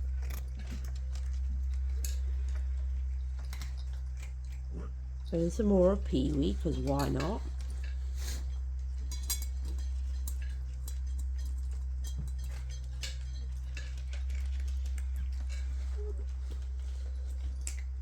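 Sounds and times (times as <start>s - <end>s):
cats eating from bowls: 0.0s - 18.0s
steady low hum: 0.0s - 18.0s.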